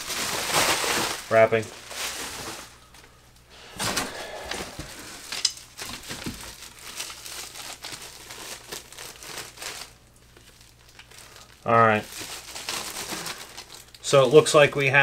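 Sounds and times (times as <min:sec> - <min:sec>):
packing wrap rustling: 0:00.0 - 0:14.9.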